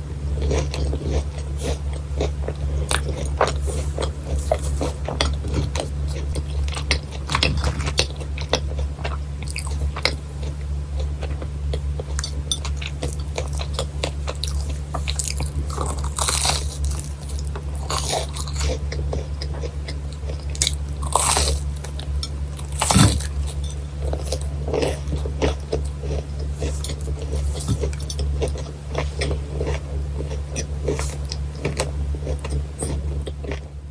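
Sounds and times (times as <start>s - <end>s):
crunchy chewing: 0.0s - 33.9s
low hum: 0.0s - 33.9s.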